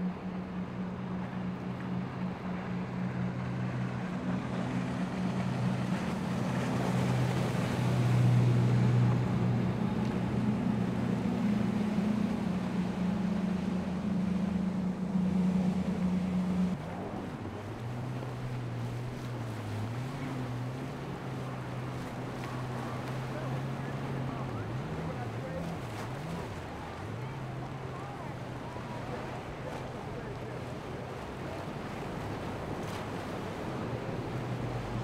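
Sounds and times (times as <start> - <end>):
outboard boat engines droning: 0.0 - 35.0
rushing water: 0.0 - 35.0.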